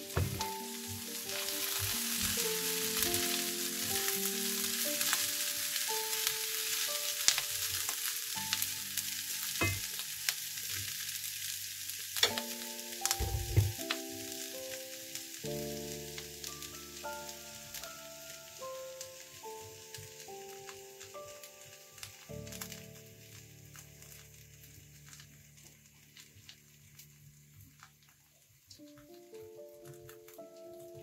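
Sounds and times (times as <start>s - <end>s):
soft background music: 0.0s - 31.0s
vegetables sizzling in a pan: 0.0s - 31.0s.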